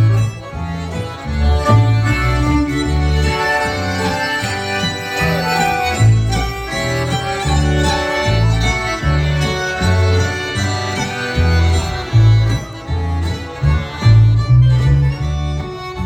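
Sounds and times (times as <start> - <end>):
dance band playing: 0.0 - 14.4
steady bass beat: 0.0 - 16.0.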